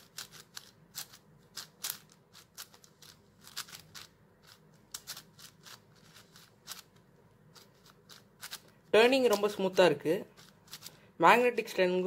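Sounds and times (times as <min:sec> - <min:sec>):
puzzle cube clicking: 0:00.0 - 0:09.7, 0:10.3 - 0:11.0.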